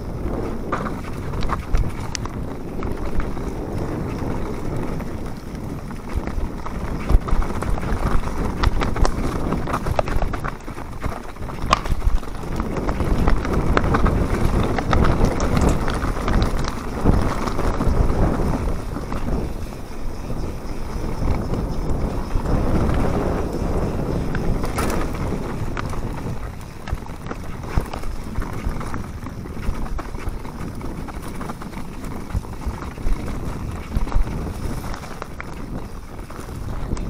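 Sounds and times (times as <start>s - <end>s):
bike rattling and clicking: 0.0s - 37.0s
bike tyres rolling over dirt: 0.0s - 37.0s
wind buffeting microphone: 0.0s - 37.0s.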